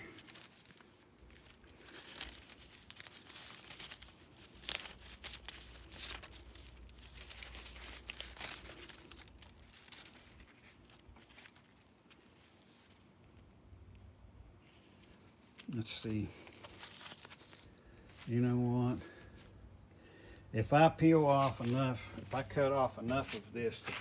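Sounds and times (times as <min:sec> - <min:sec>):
paper and film peeling crinkling: 0:00.0 - 0:13.6, 0:14.6 - 0:19.6, 0:20.6 - 0:24.0.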